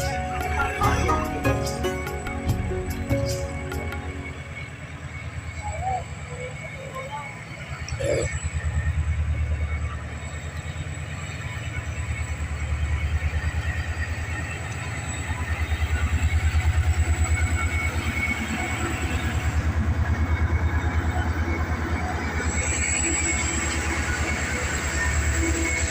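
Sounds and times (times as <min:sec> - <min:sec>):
train rumbling: 0:00.0 - 0:25.9.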